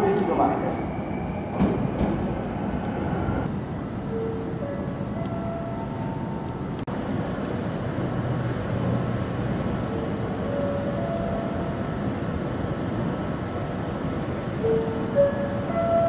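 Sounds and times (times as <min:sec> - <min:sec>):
train rumbling on tracks: 0:00.0 - 0:16.0.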